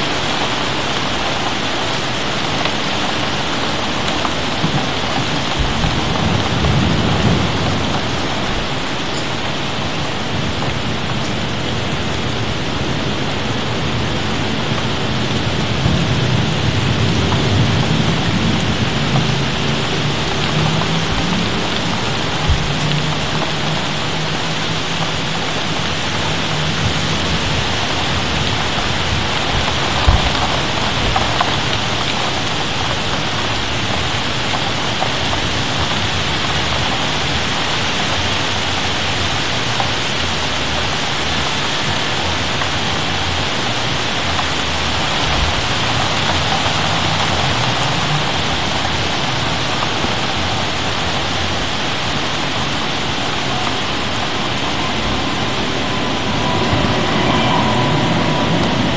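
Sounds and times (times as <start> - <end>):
steady rain falling: 0.0 - 58.9
thunder rumbling: 0.0 - 58.9.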